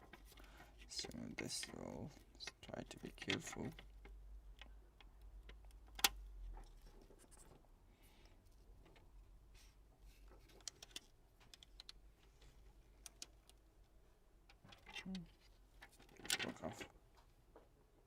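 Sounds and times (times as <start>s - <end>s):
faint clicks and light scratching: 0.0s - 17.8s.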